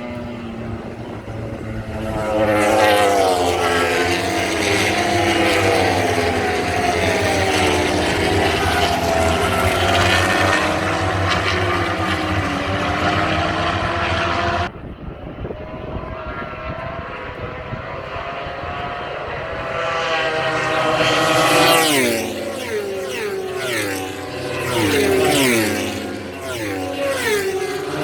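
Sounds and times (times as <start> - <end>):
motorcycle passing by: 0.0 - 28.0
racing motorcycle engines revving: 0.0 - 28.0.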